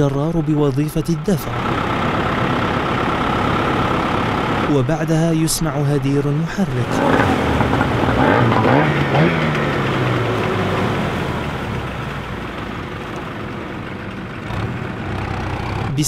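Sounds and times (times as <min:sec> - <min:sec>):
boat motor revving: 0:00.0 - 0:16.0.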